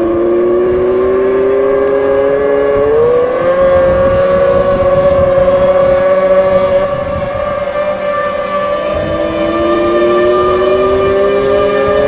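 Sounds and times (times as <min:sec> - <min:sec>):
outboard motors whining: 0:00.0 - 0:12.0.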